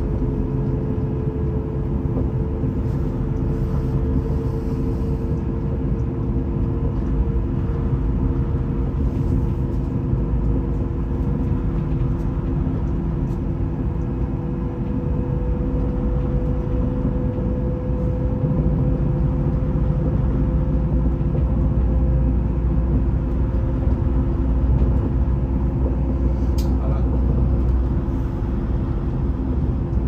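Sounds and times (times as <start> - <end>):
train hum: 0.0 - 30.0
train rumbling: 0.0 - 30.0.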